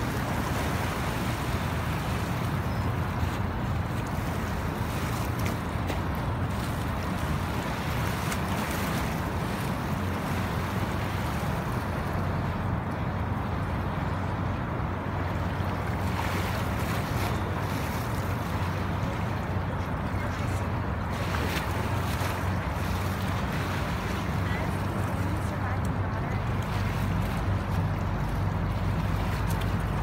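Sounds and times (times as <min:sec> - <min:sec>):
motorboat engine droning: 0:00.0 - 0:30.0
water rushing: 0:00.0 - 0:30.0.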